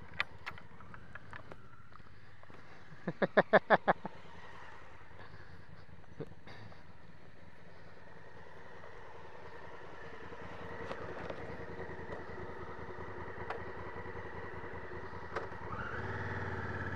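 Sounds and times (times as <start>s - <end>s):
motorcycle engine running: 0.0s - 3.1s, 4.8s - 16.9s.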